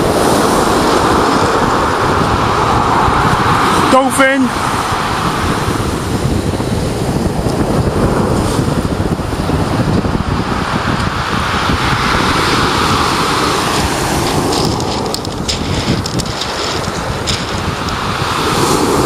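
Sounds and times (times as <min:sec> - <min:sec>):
waves washing on shingle: 0:00.0 - 0:19.0
wind buffeting microphone: 0:00.0 - 0:19.0.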